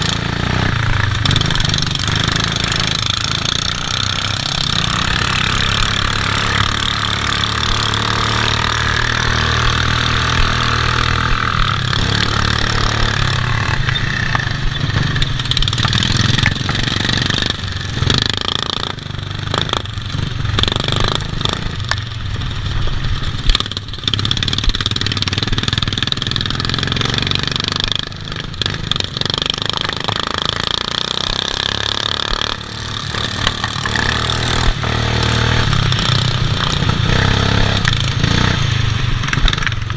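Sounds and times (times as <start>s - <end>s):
lawn mower engine running hard: 0.0s - 39.9s.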